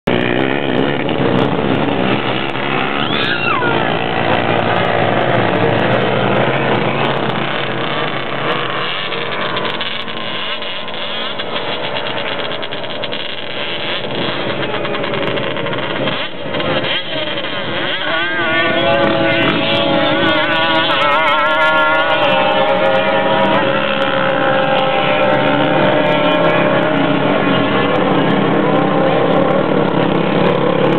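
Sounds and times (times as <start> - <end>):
quad engines running hard: 0.0 - 30.9.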